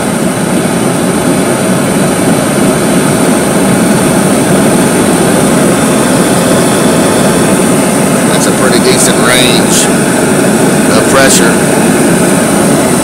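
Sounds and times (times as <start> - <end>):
gas forge burner roaring: 0.0 - 13.0.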